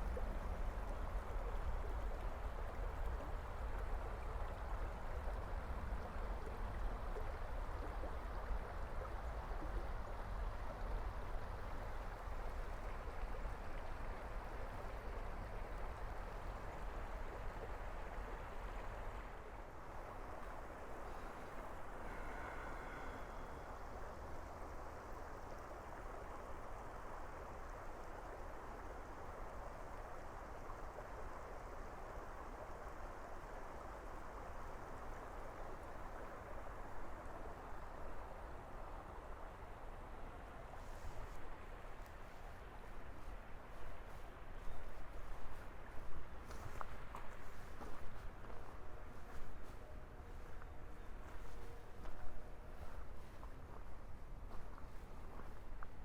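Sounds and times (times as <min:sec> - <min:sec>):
creek water flowing: 0:00.0 - 0:56.0.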